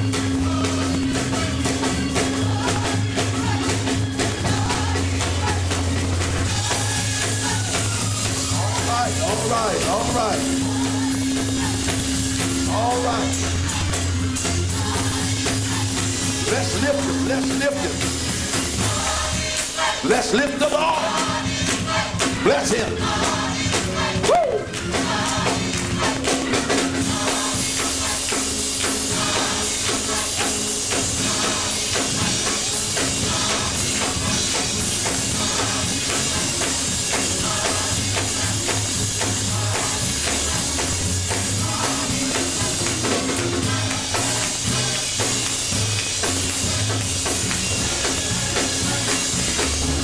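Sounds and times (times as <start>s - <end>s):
drums and percussion: 0.0s - 50.0s
people clapping along: 0.0s - 50.0s.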